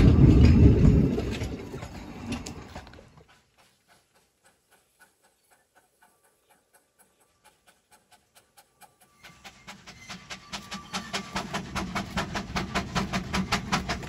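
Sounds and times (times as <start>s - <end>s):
faint steam locomotive chuffs: 0.0s - 14.0s
train rumbling past: 0.0s - 14.0s.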